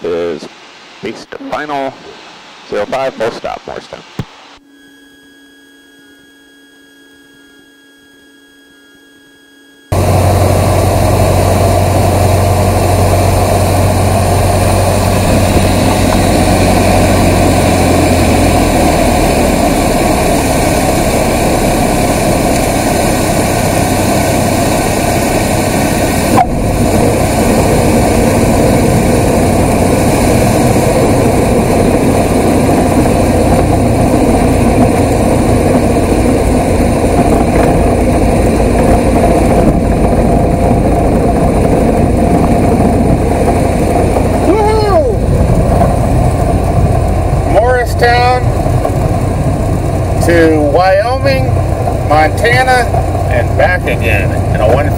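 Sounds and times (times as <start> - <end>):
faint steady hum: 0.0 - 54.9
airplane engine near idle: 9.9 - 54.9.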